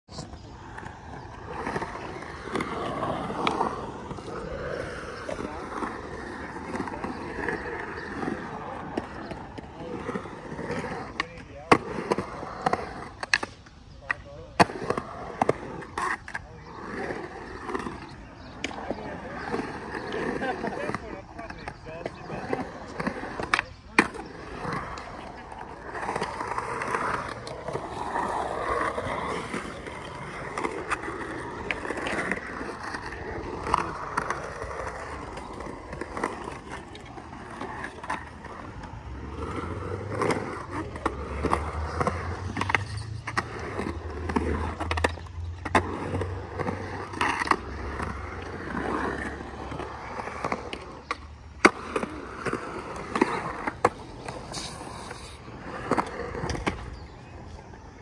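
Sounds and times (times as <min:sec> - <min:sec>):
skateboard wheels rolling on concrete: 0:00.0 - 0:58.0
skateboard clacking on concrete: 0:00.1 - 0:58.0.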